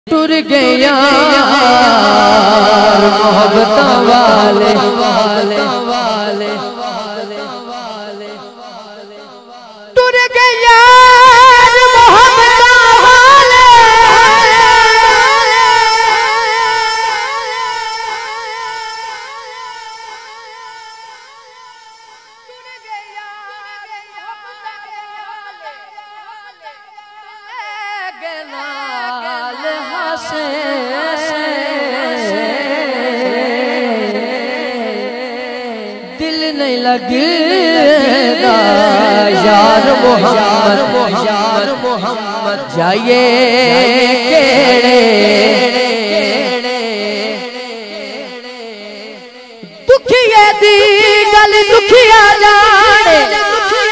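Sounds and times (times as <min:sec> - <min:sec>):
man singing into microphone: 0:00.1 - 0:53.9.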